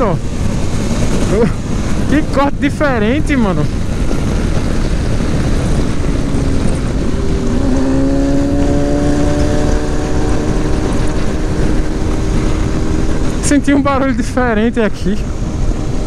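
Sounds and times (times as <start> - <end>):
motorcycle engine accelerating: 0.0 - 16.0
wind noise on microphone: 0.0 - 16.0.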